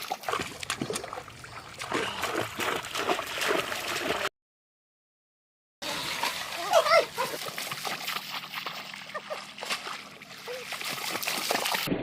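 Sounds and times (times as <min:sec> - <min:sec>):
shallow water splashing: 0:00.0 - 0:04.3, 0:05.8 - 0:11.9.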